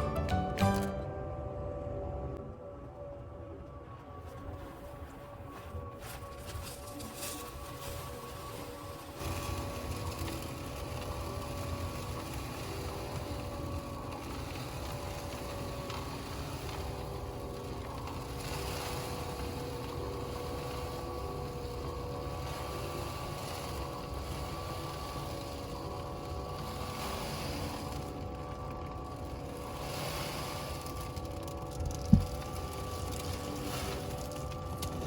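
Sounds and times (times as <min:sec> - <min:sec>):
steady mechanical hum: 0:00.0 - 0:35.0.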